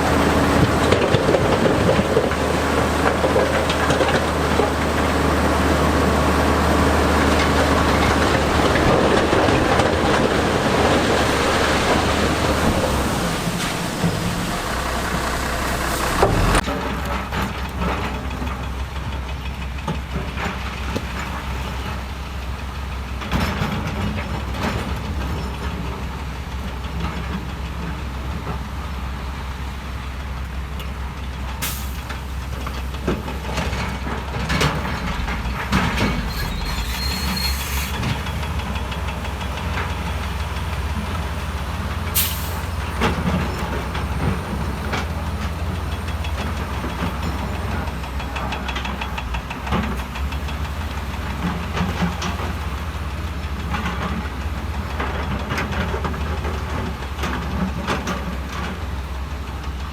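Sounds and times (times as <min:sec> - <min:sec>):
diesel earthmoving machinery running: 0:00.0 - 0:59.9.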